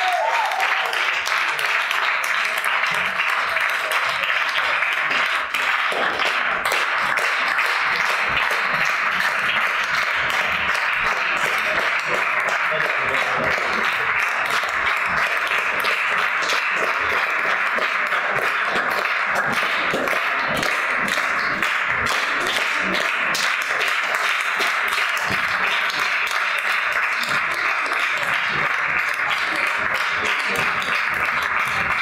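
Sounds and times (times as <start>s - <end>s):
audience applauding: 0.0s - 32.0s.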